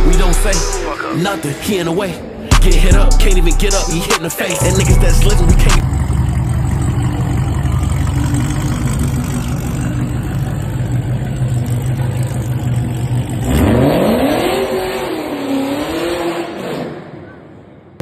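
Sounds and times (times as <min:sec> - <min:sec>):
car engine idling and revving: 0:00.0 - 0:17.4.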